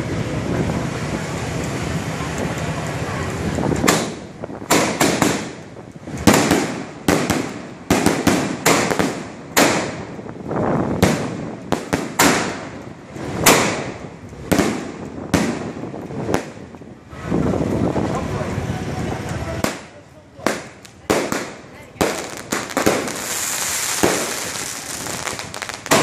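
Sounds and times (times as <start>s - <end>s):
fireworks bangs echoing: 3.6s - 18.0s, 19.5s - 26.0s.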